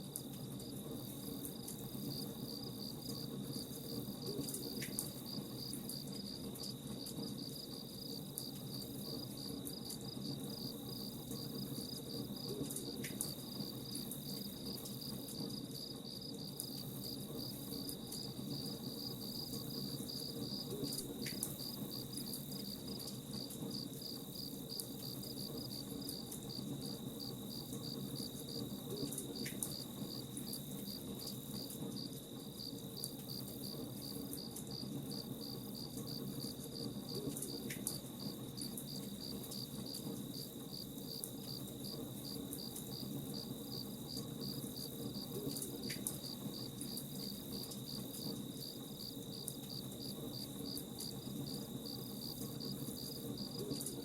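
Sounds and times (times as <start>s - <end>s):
campfire crackles: 0.0s - 54.0s
crickets chirping: 0.5s - 54.0s.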